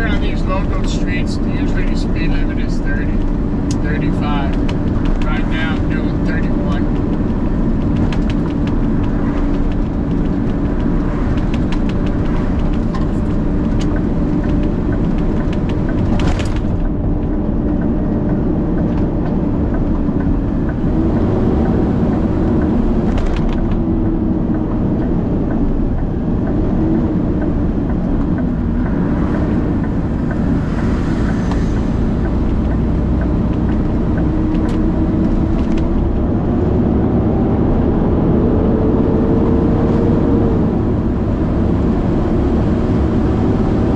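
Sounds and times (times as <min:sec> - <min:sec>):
truck diesel engine running: 0:00.0 - 0:37.3.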